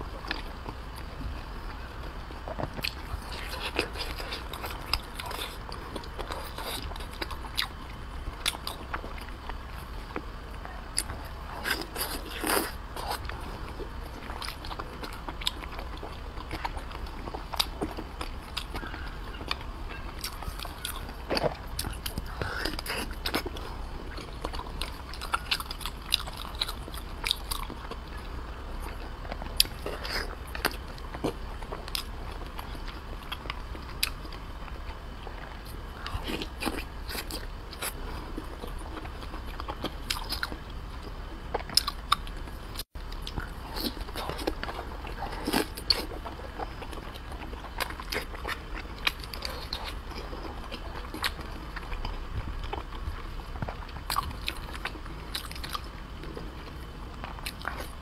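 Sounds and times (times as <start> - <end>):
chewing soft meat: 0.0 - 58.0
steady low hum: 0.0 - 58.0.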